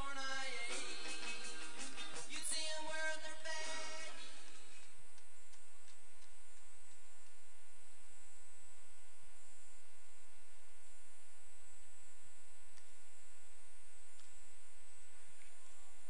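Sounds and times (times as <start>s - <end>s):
electrical hum and hiss: 0.0s - 16.0s.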